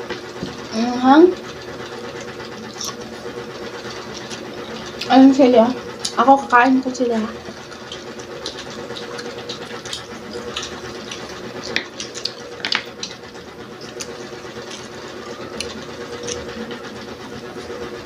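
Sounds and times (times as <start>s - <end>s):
crunching and chewing: 1.5s - 6.6s, 7.2s - 18.0s.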